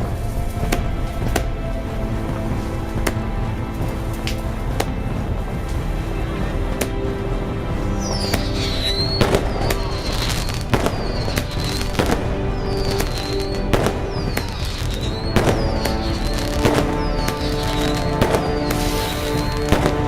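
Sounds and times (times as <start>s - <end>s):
background music: 0.0s - 20.0s
fireworks banging: 0.0s - 20.0s.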